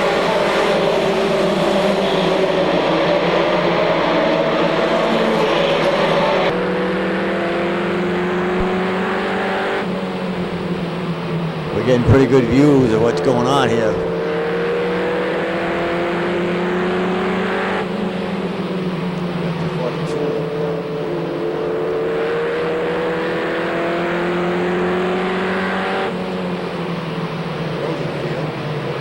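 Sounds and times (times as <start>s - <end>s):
racing truck engines revving: 0.0s - 29.0s.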